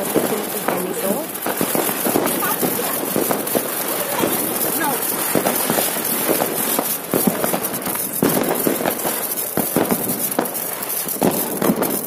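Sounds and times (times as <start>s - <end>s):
crackling pops: 0.0s - 12.0s
fireworks hissing: 0.0s - 12.0s.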